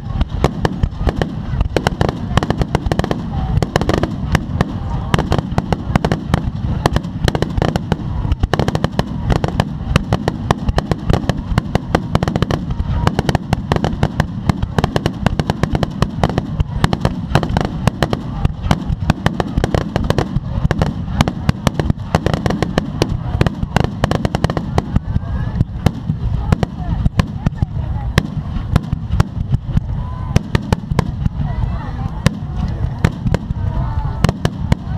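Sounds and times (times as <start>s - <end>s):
firework bursts and crackling: 0.0s - 34.9s
low rumble of booms: 0.0s - 34.9s.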